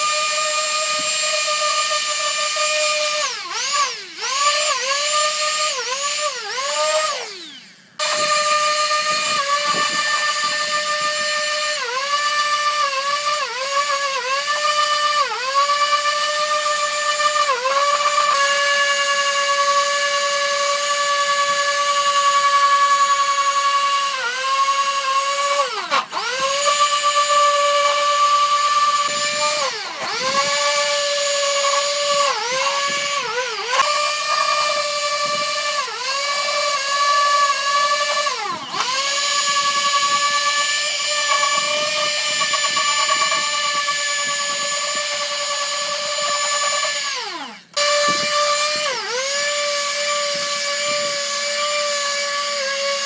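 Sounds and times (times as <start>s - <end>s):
electric power tool whining: 0.0s - 53.0s.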